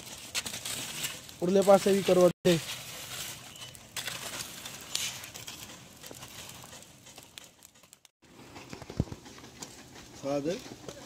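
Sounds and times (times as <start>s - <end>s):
charcoal crackling: 0.0s - 11.0s
coals clinking: 0.0s - 11.0s
metal rod scraping coals: 0.0s - 11.0s.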